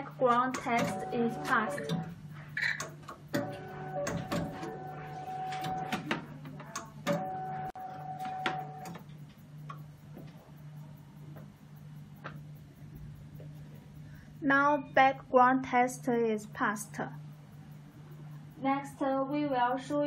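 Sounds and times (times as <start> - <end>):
machine whine: 0.0 - 20.0
sharp mechanical clicks: 0.0 - 20.0.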